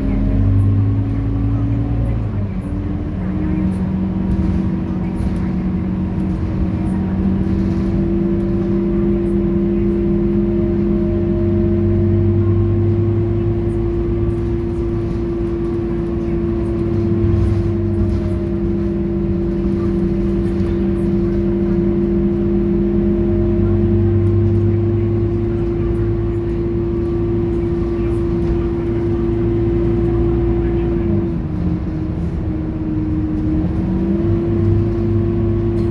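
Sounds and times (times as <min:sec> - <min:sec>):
bus diesel engine humming: 0:00.0 - 0:35.9.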